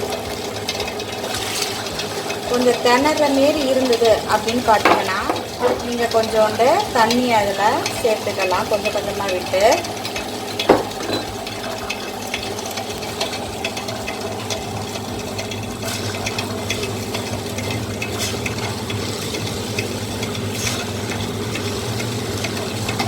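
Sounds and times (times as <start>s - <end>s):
wet grinder motor humming: 0.0s - 23.0s.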